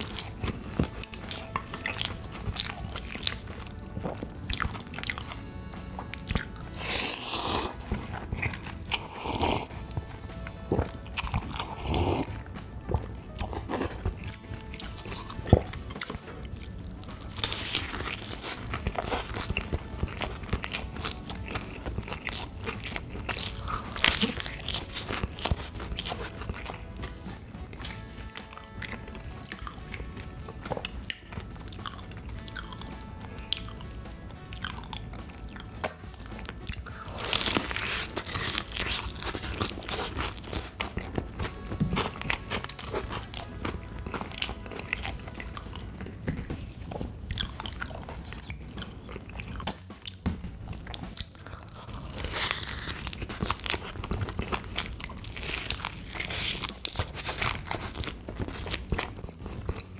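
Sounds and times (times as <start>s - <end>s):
crunchy bites and chewing: 0.0s - 59.9s
faint background music: 0.0s - 59.9s.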